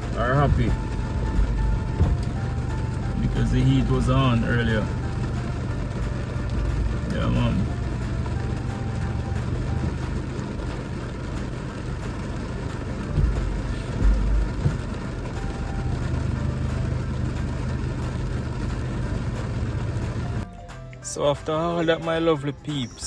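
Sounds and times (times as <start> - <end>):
low thumps: 0.0 - 10.6, 12.5 - 20.4
pouring rain hiss: 0.0 - 20.4
car engine idling: 0.0 - 23.0.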